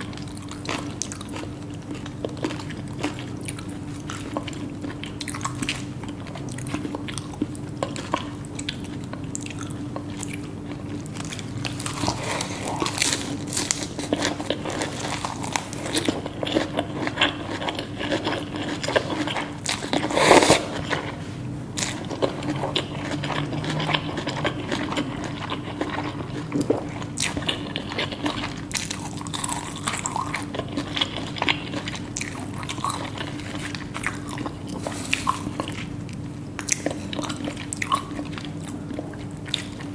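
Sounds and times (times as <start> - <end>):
crunchy bites and chewing: 0.0 - 21.2, 21.8 - 39.9.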